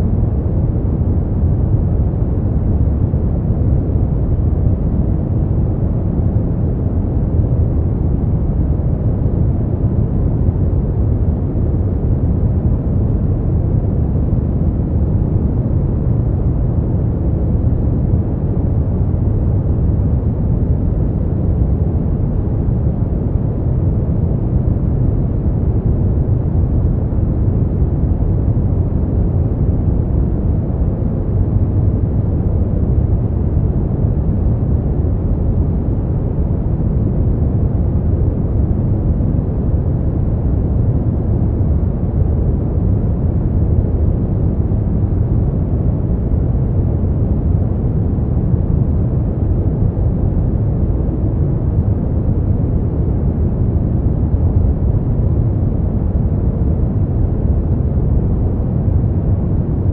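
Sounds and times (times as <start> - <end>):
deep muffled steady noise: 0.0 - 59.9.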